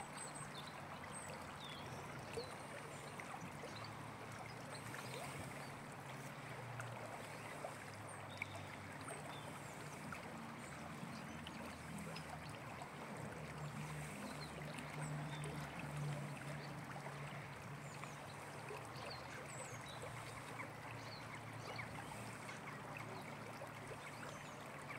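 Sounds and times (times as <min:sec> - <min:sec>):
stream water rushing: 0:00.0 - 0:24.9.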